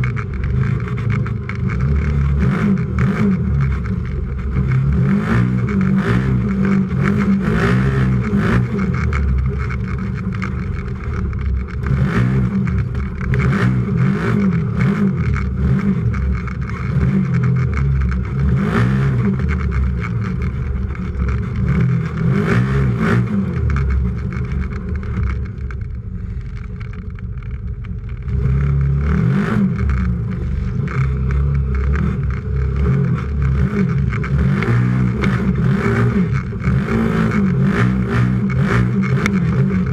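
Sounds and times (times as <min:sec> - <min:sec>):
engine revving: 0:00.0 - 0:26.6, 0:28.0 - 0:39.9.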